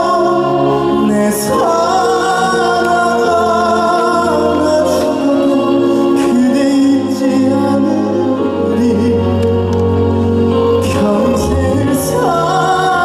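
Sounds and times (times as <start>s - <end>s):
band playing: 0.0s - 13.0s
man singing: 0.0s - 13.0s.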